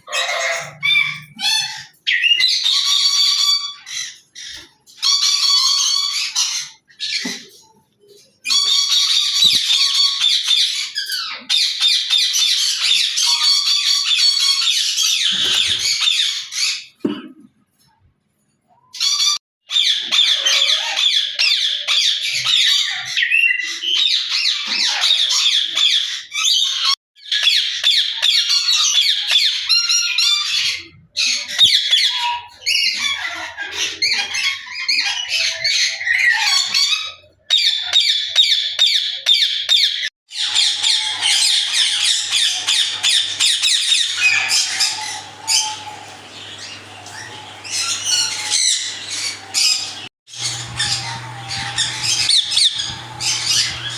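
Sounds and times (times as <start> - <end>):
parrots chattering and squawking: 0.0 - 17.0, 18.8 - 53.9.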